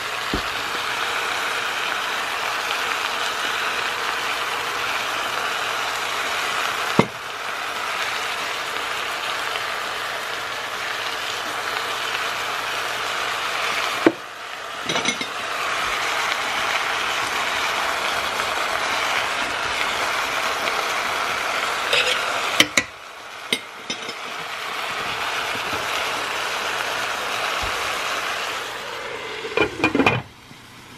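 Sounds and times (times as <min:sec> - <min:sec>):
meat sizzling in a pot: 0:00.0 - 0:30.9.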